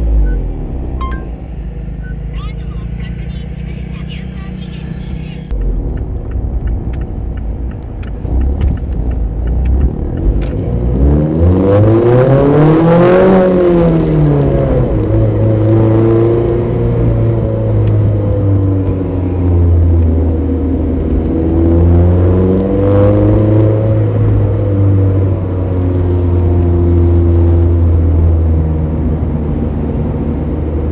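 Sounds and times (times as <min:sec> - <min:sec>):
car engine revving while driving: 0:00.0 - 0:30.9.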